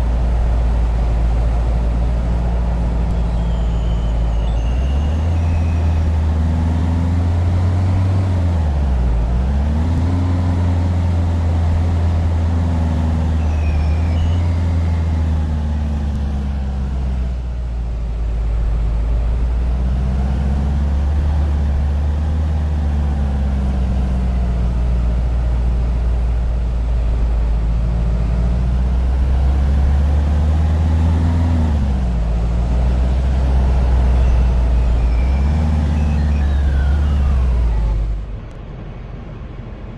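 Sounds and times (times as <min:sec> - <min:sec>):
vehicle engine drone: 0:00.0 - 0:39.9.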